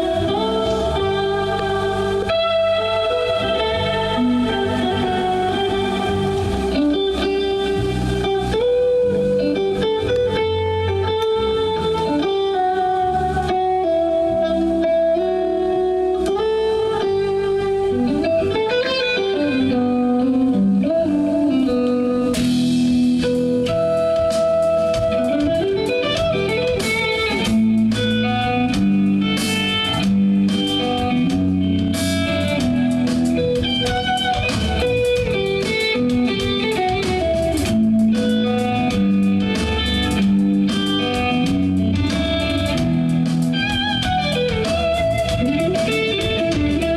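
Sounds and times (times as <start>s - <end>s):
bass line: 0.0s - 46.9s
guitar melody with sliding notes: 0.0s - 46.9s.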